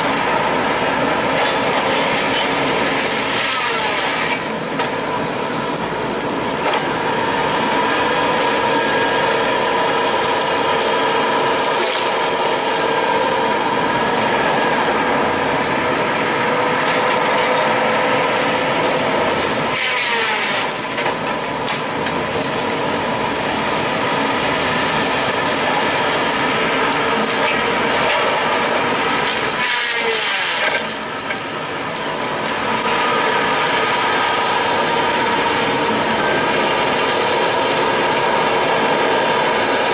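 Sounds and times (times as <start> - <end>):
heavy machine high whine: 0.0 - 39.9.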